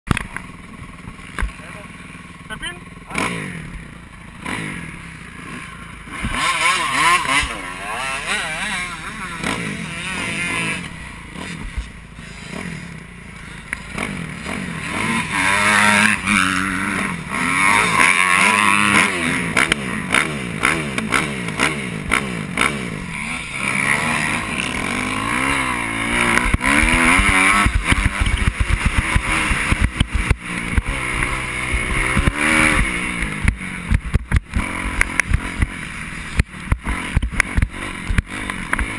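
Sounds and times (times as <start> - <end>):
motocross bike engine revving: 0.1 - 38.9.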